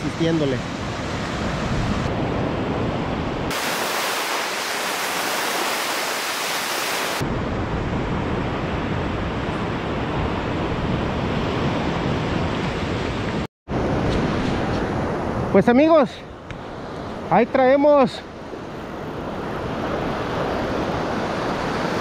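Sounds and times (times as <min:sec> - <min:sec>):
ocean surf breaking on a beach: 0:00.0 - 0:22.0.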